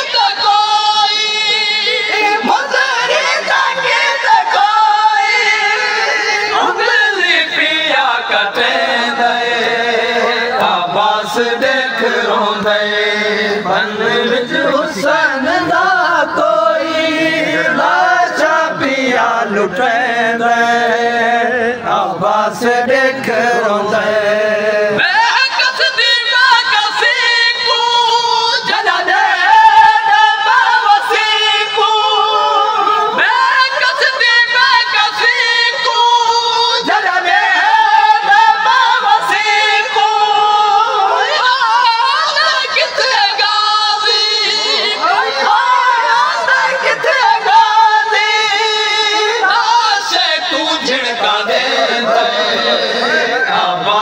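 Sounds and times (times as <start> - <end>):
men chanting a lament: 0.0 - 54.0.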